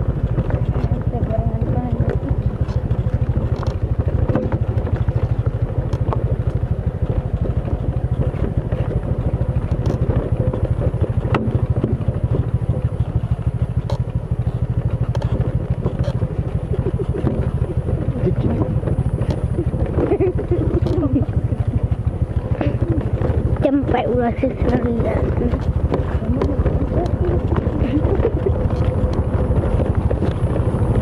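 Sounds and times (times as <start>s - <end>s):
motorcycle engine running: 0.0s - 31.0s
sharp clicks and knocks: 0.3s - 30.5s.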